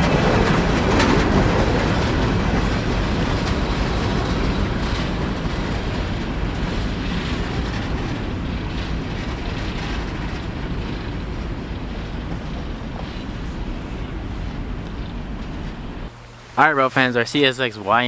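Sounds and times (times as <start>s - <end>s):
train wheel clacks: 0.0s - 17.6s
train cars rumbling past: 0.0s - 18.0s.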